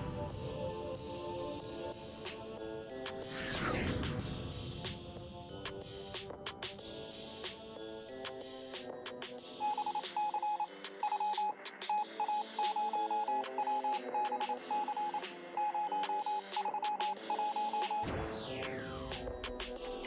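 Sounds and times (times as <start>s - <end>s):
electronic background music: 0.0s - 20.0s.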